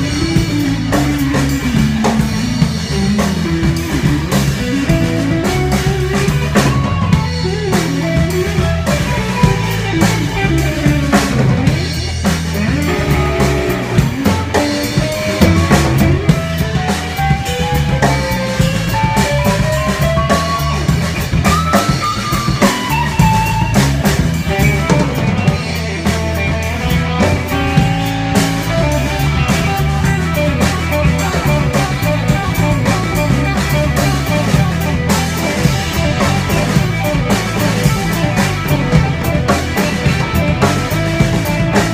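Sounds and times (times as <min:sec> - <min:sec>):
drum kit: 0:00.0 - 0:41.9
electric guitar lead line: 0:00.0 - 0:41.9
upright bass: 0:00.0 - 0:41.9.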